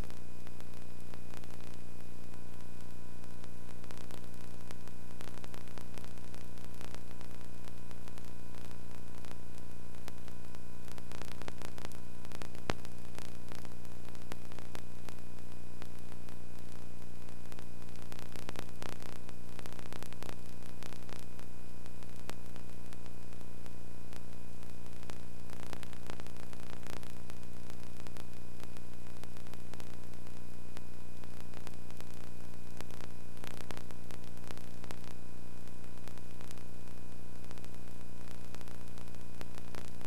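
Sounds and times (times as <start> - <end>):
faint clicks: 0.0 - 35.2, 35.8 - 40.0
constant hiss: 0.0 - 40.0
steady electrical hum: 0.0 - 40.0.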